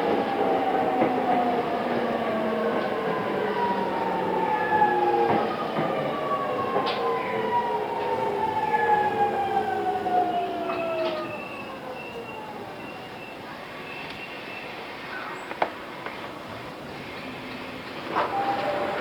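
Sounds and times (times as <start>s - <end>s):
rail rolling noise: 0.0s - 19.0s.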